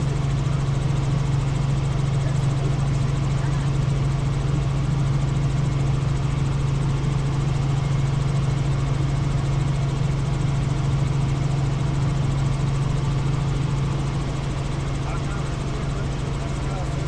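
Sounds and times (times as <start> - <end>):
helicopter rotor drone: 0.0 - 17.0.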